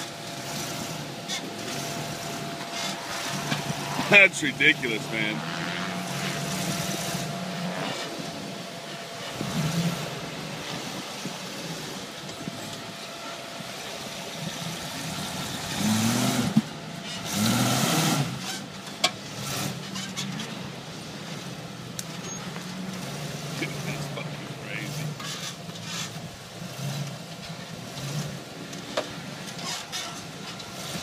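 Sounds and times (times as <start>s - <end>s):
engine running and revving: 0.0s - 31.0s.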